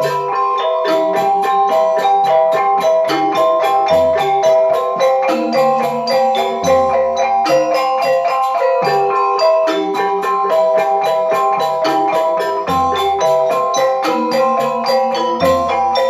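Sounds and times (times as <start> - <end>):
drum strokes: 0.0 - 16.0
metallophones ringing: 0.0 - 16.0.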